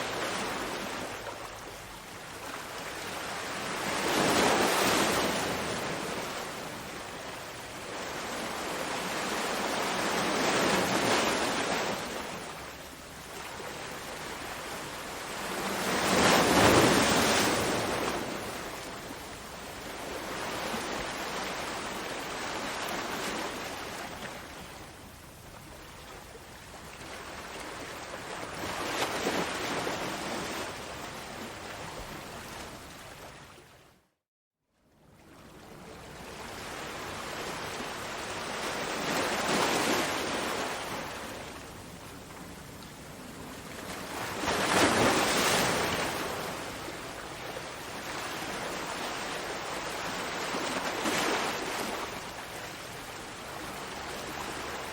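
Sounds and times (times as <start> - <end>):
ocean waves breaking on shore: 0.0 - 33.8, 35.2 - 54.9.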